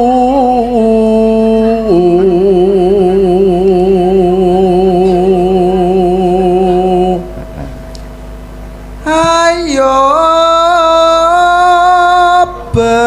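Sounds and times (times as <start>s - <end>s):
man singing solo unaccompanied: 0.0s - 7.7s, 9.0s - 13.0s.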